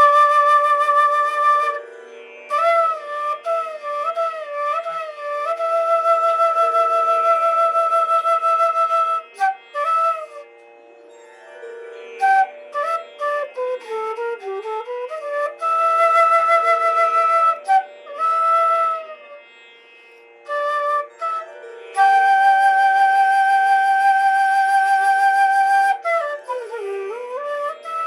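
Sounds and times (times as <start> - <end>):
solo flute slow melody: 0.0 - 10.6, 11.5 - 19.5, 20.4 - 28.0.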